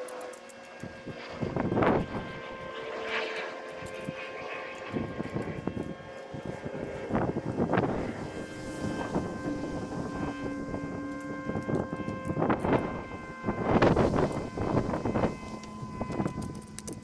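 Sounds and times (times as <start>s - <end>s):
engine-like drone: 0.0s - 17.0s.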